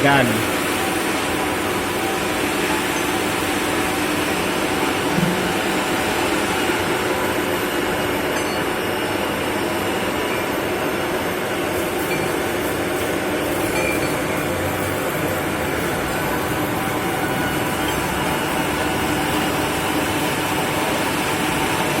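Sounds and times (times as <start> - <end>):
machine droning: 0.0 - 22.0.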